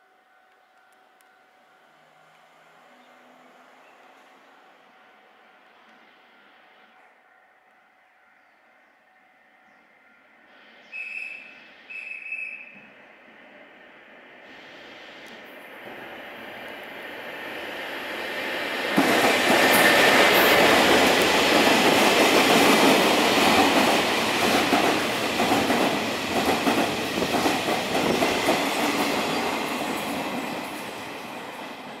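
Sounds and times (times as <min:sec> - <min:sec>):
diesel locomotive passing: 0:00.6 - 0:32.0.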